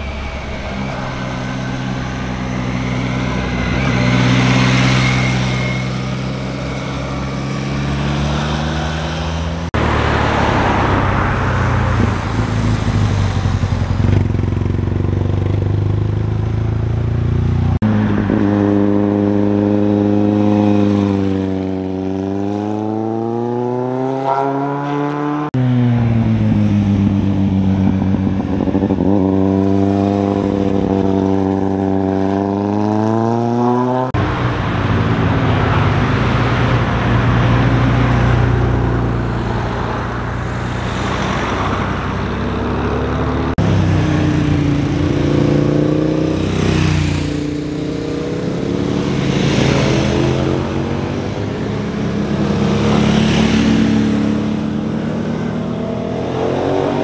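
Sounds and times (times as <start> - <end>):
motorcycle engines passing: 0.0 - 57.0.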